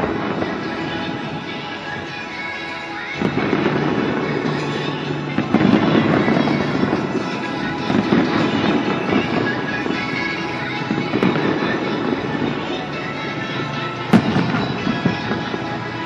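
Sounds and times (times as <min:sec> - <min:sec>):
fireworks crackling bursts: 0:00.0 - 0:16.0
music: 0:00.0 - 0:16.0.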